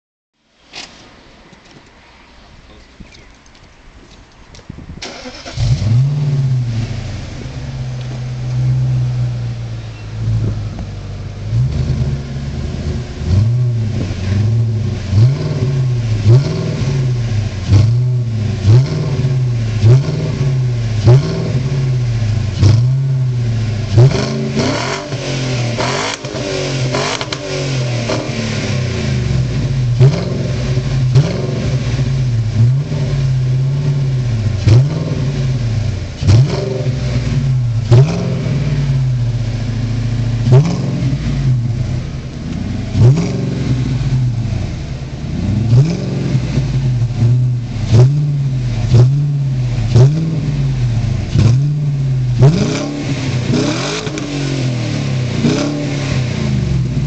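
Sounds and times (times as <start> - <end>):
car engine idling and revving: 1.0 - 57.0.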